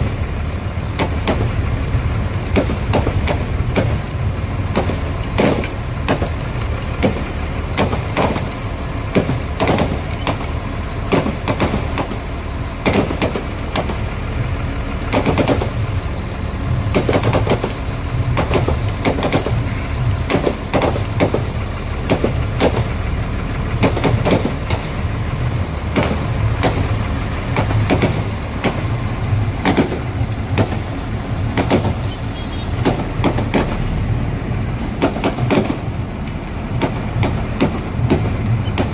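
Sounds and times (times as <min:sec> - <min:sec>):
fireworks bangs and crackles: 0:00.0 - 0:38.9
steady low rumble: 0:00.0 - 0:38.9.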